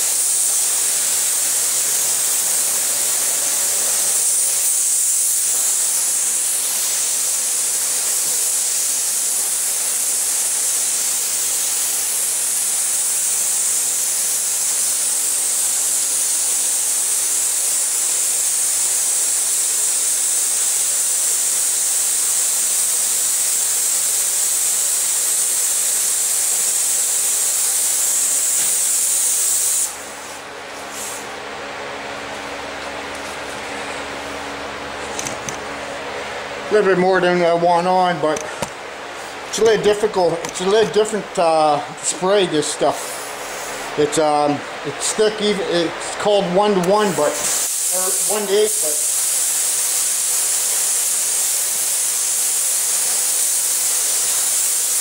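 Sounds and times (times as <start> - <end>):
paint spray gun hissing: 0.0 - 31.4, 37.9 - 44.0, 45.1 - 55.0.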